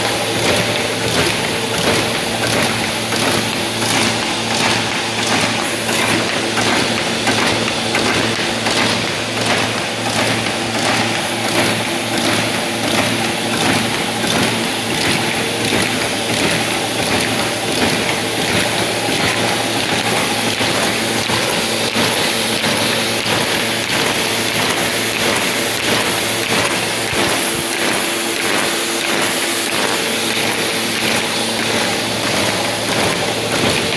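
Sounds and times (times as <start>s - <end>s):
folding machine clattering: 0.0s - 33.9s.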